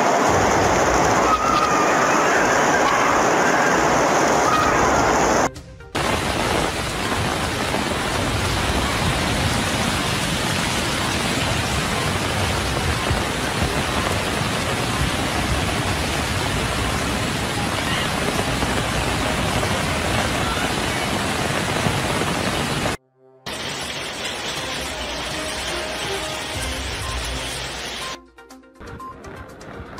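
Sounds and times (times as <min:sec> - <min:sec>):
floodwater rushing: 0:00.0 - 0:28.2
heavy rain: 0:00.0 - 0:28.2.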